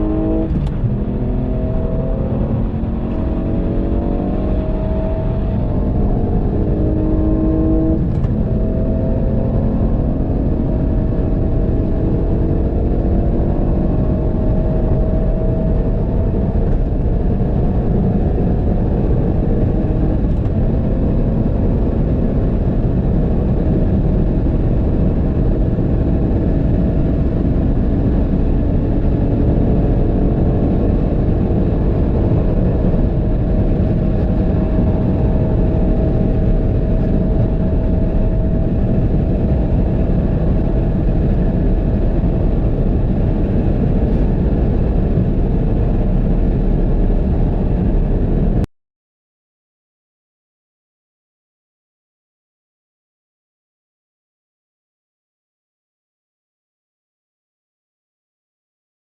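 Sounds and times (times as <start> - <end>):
car engine accelerating: 0.0 - 48.7
wind and road noise: 0.0 - 48.7.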